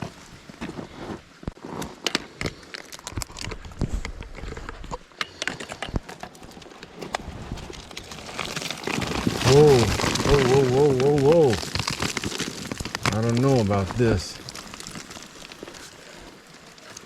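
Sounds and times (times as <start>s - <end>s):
footsteps on loose rock and gravel: 0.0s - 17.0s
shifting stones knocking: 1.6s - 17.0s.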